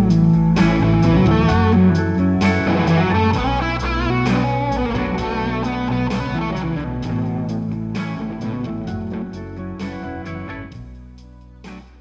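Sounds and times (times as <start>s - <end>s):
electric guitar notes: 0.0s - 10.8s
keyboard chords: 0.0s - 12.0s.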